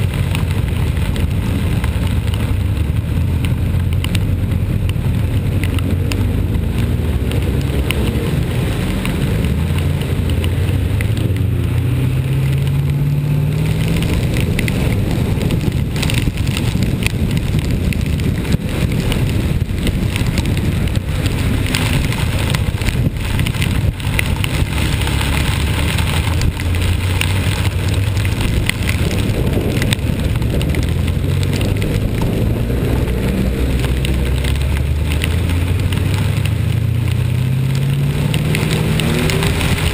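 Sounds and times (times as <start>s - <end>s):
road and wind noise: 0.0s - 39.9s
vehicle engine accelerating: 0.0s - 39.9s.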